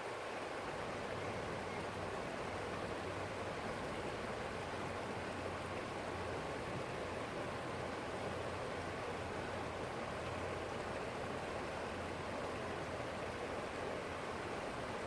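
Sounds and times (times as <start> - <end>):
stream flowing over rocks: 0.0 - 15.0.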